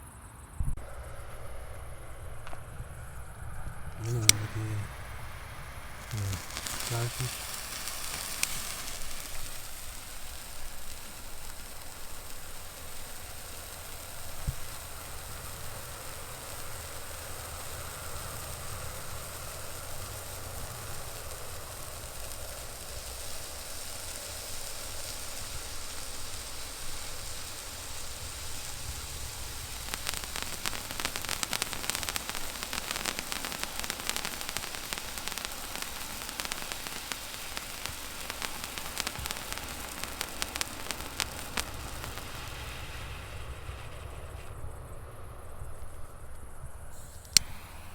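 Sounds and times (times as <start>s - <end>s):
firework hissing and crackling: 0.6s - 47.9s.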